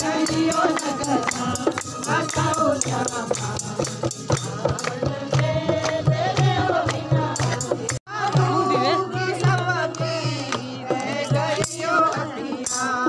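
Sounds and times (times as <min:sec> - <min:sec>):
hand drum beat: 0:00.0 - 0:12.9
group singing folk song: 0:00.0 - 0:13.0
jingling rattling percussion: 0:00.0 - 0:13.0.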